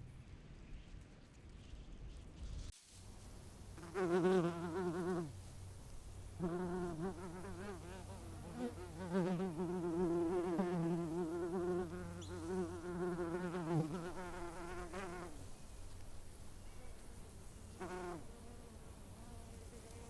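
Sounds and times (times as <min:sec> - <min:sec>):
flying insect buzzing: 0:03.2 - 0:20.0.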